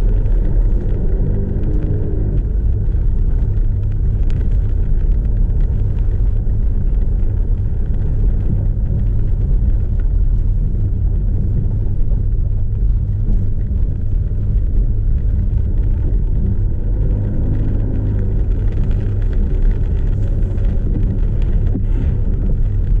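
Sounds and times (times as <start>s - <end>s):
diesel engine and tyres rumbling: 0.0s - 23.0s.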